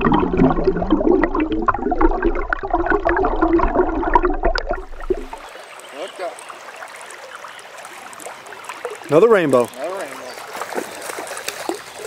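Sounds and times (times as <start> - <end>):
stream water churning and gurgling: 0.0 - 12.0.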